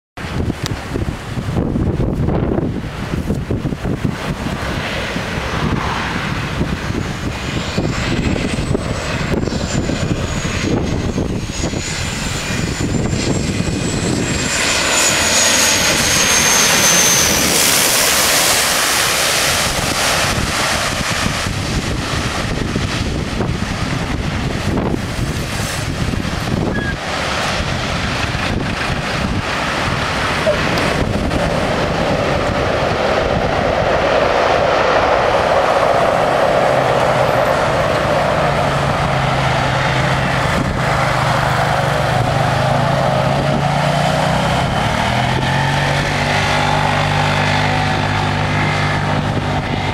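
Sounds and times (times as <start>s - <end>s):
turboprop aircraft passing: 0.2s - 49.9s.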